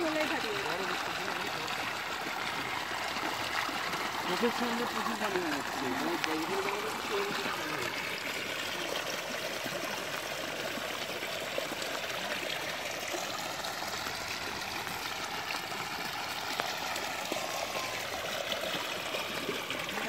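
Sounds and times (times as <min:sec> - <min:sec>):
rain falling on pond: 0:00.0 - 0:20.0.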